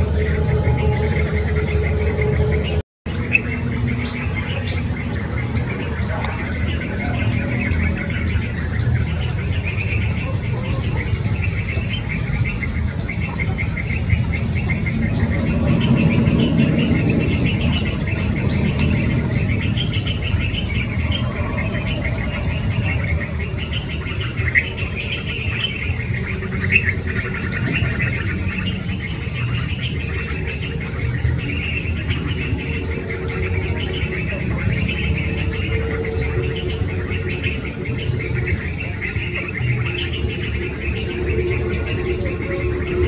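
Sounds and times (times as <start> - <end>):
birds chirping: 0.0 - 43.0
high bird notes: 0.0 - 43.0.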